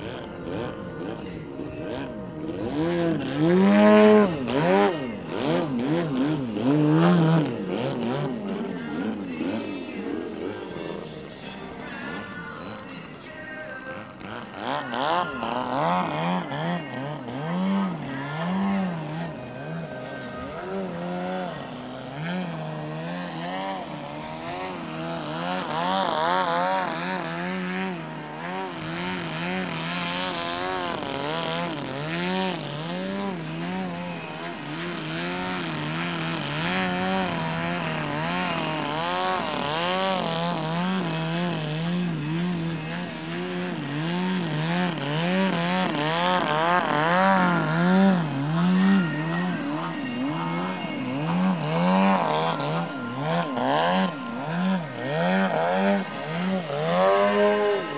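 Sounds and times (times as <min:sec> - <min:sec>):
model plane engine revving: 0:01.9 - 0:09.6, 0:14.0 - 0:57.9.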